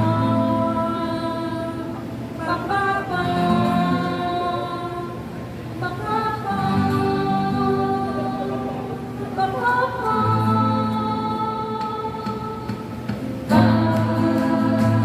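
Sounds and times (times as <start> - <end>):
person singing with music: 0.0 - 15.0.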